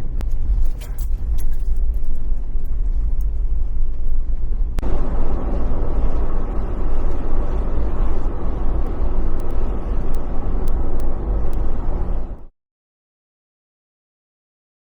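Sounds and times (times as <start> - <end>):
vehicle engine and tyres rumbling: 0.0 - 12.5.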